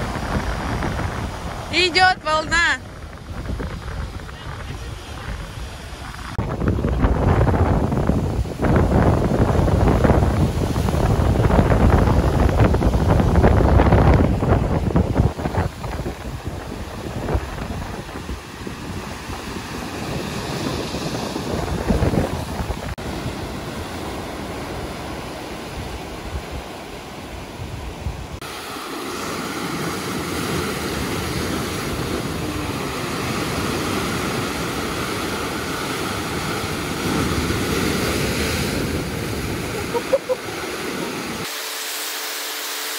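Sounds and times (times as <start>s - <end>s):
surf breaking over rocks: 0.0s - 41.4s
wind buffeting microphone: 0.0s - 41.5s.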